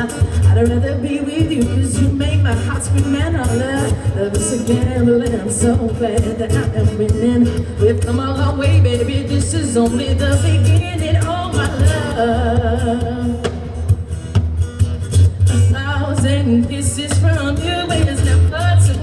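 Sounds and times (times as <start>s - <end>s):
woman singing into a microphone: 0.0s - 13.9s, 15.3s - 19.0s
acoustic guitar: 0.0s - 19.0s.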